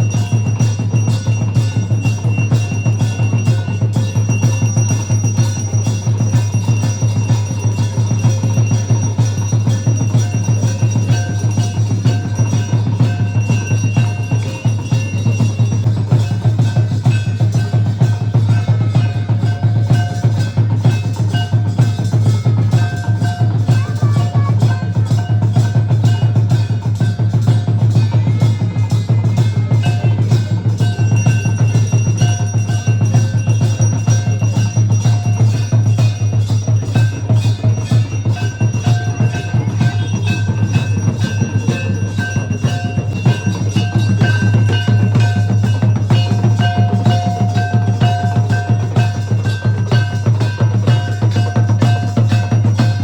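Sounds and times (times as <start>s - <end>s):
bells ringing: 0.0s - 53.0s
fast drumming: 0.0s - 53.0s
fast steady percussion: 0.0s - 53.0s.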